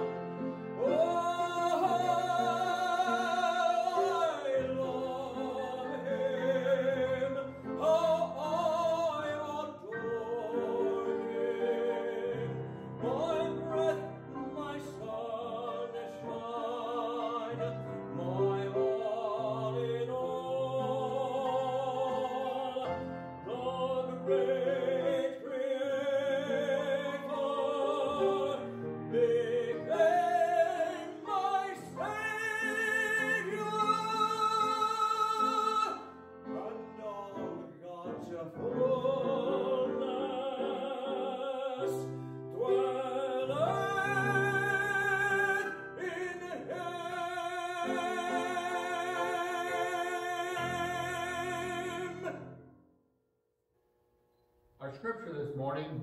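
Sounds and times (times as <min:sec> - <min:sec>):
man singing operatically: 0:00.0 - 0:52.6
grand piano: 0:00.0 - 0:52.8.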